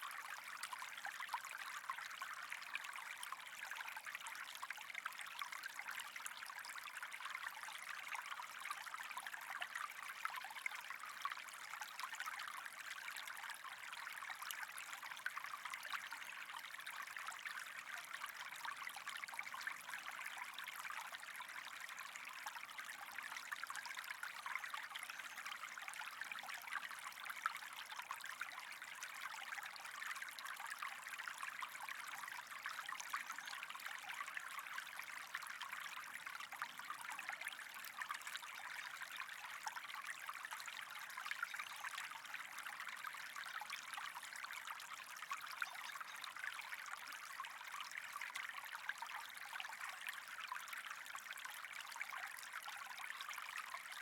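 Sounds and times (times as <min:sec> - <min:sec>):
water trickling with fine crackle: 0:00.0 - 0:54.0.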